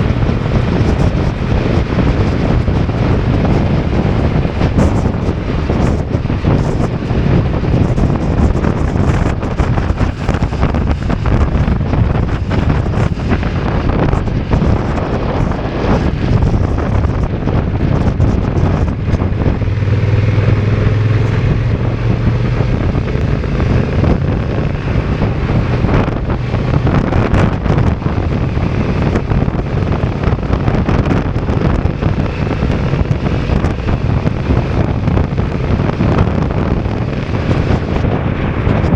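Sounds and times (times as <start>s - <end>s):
motorcycle engine hum: 0.0s - 38.9s
wind buffeting microphone: 0.0s - 38.9s.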